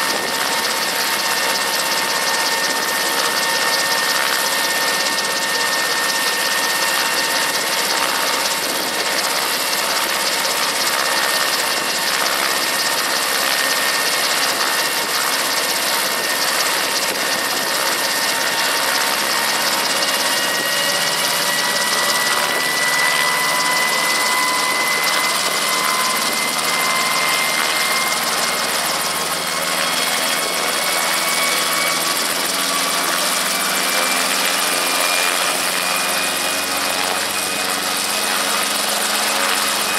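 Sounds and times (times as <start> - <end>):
rising rotor whine: 0.0 - 39.9.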